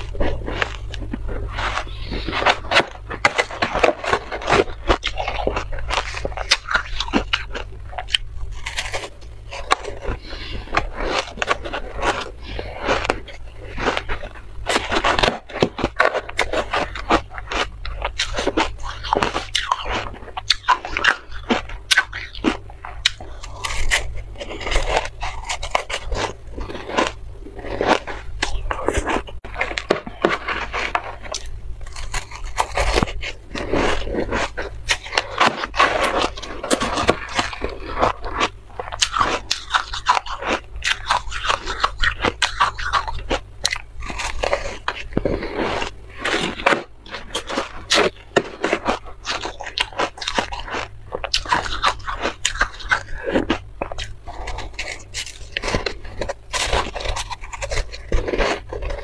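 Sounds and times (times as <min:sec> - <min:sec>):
crunching and chewing shaved ice: 0:00.0 - 0:59.0.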